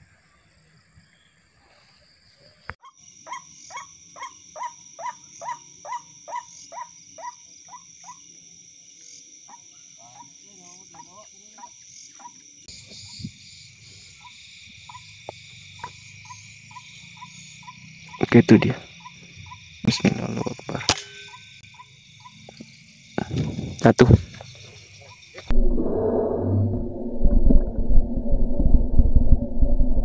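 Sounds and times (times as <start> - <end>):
insect chorus trilling: 0.0 - 26.2.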